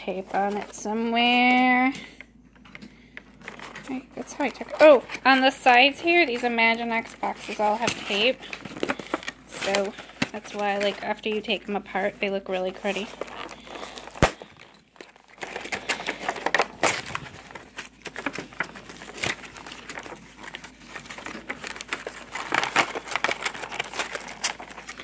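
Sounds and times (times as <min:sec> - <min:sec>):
plastic and cardboard crinkling: 0:00.0 - 0:25.0.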